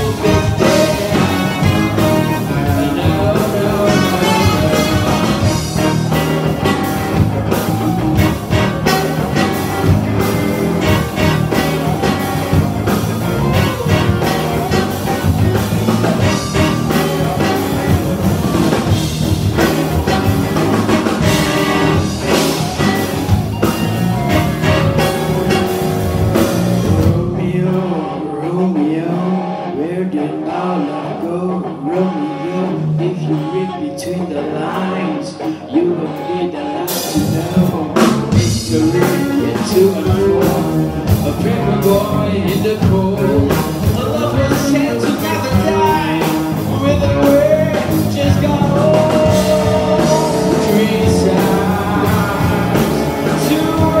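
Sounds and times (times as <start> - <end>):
drums and cymbals: 0.0 - 27.4, 36.9 - 54.0
bass and guitar lines: 0.0 - 54.0
live rock band playing: 0.0 - 54.0.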